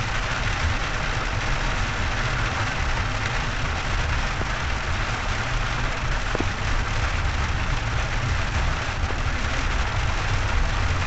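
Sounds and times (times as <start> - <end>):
car engine and tyres rumble: 0.0 - 11.0
rain on car windshield: 0.0 - 11.0.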